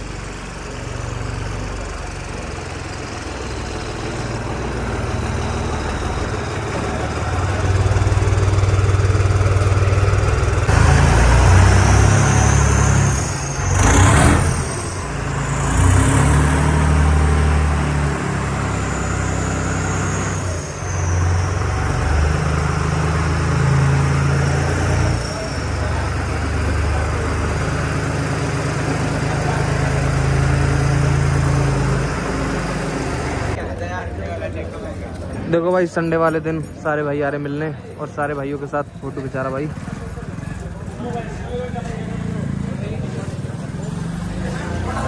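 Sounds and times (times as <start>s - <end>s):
diesel tractor engine: 0.0s - 45.0s.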